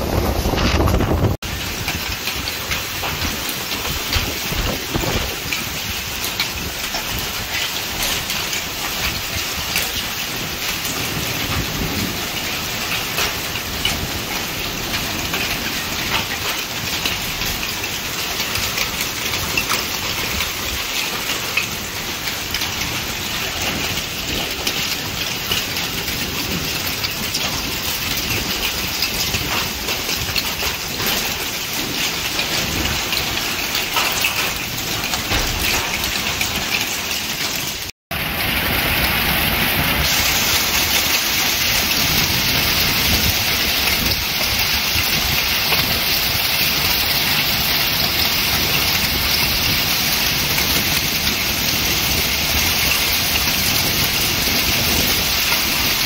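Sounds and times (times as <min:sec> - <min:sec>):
heavy rain on metal roofs: 0:00.0 - 0:56.0.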